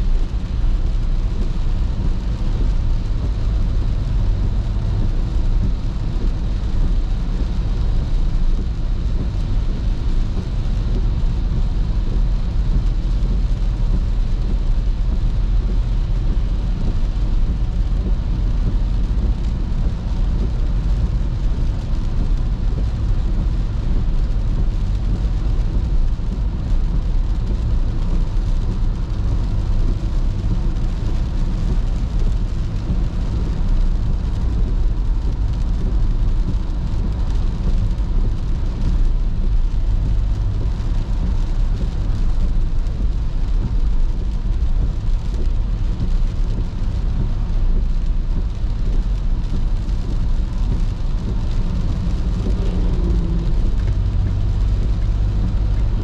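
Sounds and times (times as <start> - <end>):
car road noise on wet road: 0.0 - 56.0.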